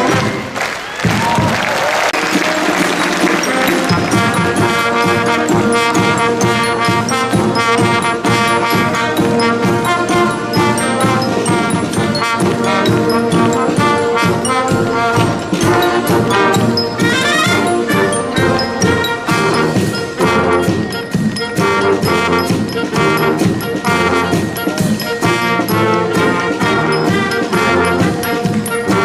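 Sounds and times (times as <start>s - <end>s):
bass drum and snare drums: 0.0s - 29.0s
brass marching band playing: 0.0s - 29.0s.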